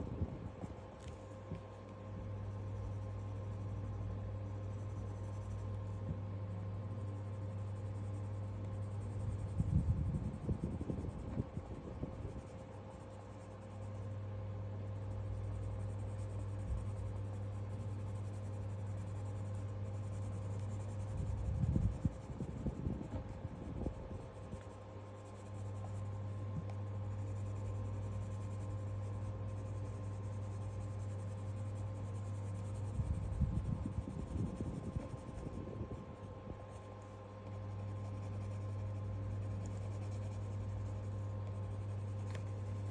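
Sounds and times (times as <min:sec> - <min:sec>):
steady low hum: 0:00.0 - 0:42.9
pencil scratching on paper: 0:00.6 - 0:42.9.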